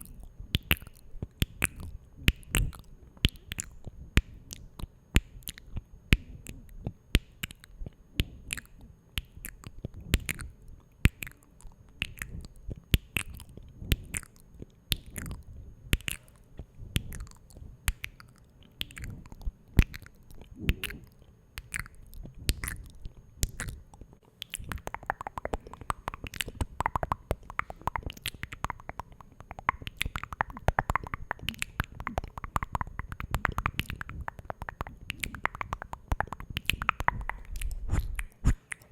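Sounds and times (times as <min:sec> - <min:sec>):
wet mouth clicks and smacks: 0:00.0 - 0:38.9.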